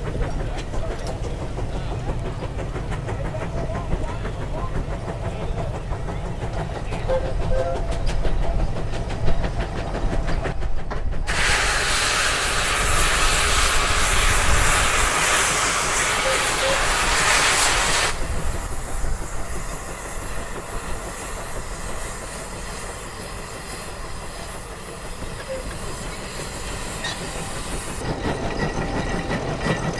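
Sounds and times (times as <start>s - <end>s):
loud steam hiss: 0.0s - 28.2s
steam engine low rumble: 0.0s - 29.9s.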